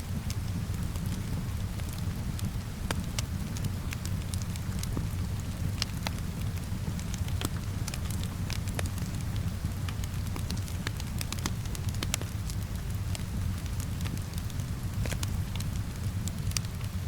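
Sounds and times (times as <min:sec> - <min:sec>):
fireplace crackling and popping: 0:00.0 - 0:17.0.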